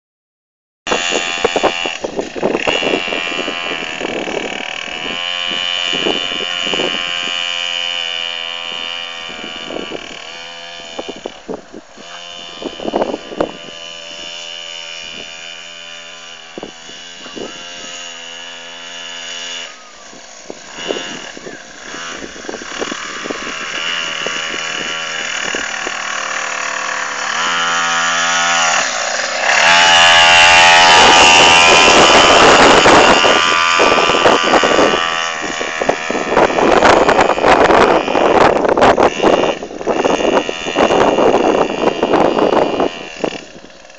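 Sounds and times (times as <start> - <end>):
dirt bike engine revving: 0.9 - 43.9.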